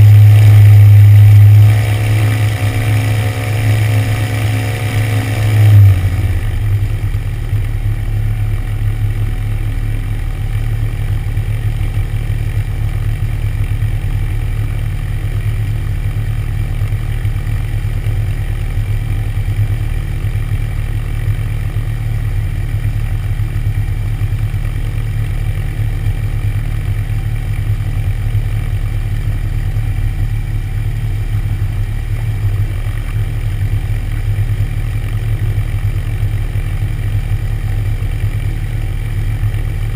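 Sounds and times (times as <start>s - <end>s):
aircraft engine idling: 0.0s - 39.9s.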